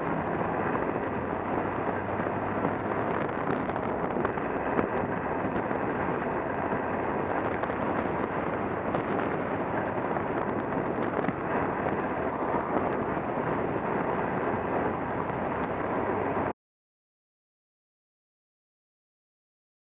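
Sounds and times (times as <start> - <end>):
wind rushing over microphone: 0.0 - 16.5.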